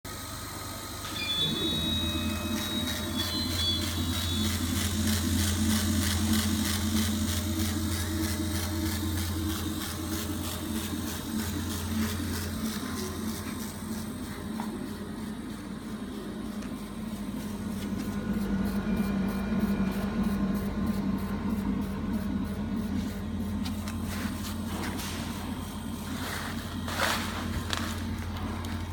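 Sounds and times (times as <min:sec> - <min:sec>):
machine mechanical hum: 0:00.1 - 0:28.9.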